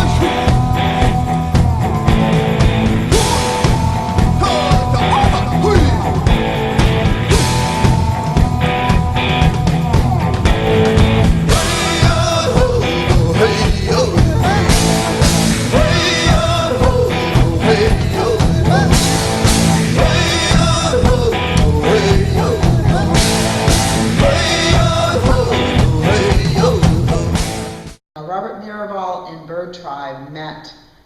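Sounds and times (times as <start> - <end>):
person singing: 0.0 - 27.6
rock band music: 0.0 - 28.0.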